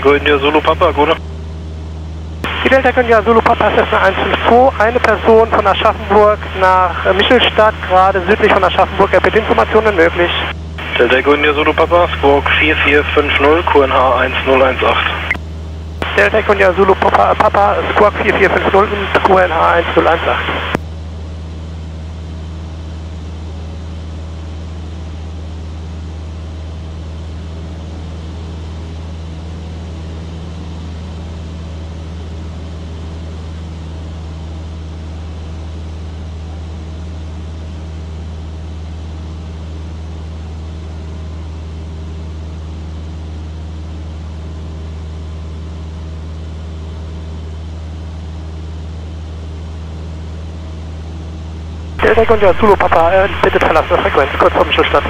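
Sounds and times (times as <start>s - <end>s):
aircraft engine droning: 0.0s - 55.0s.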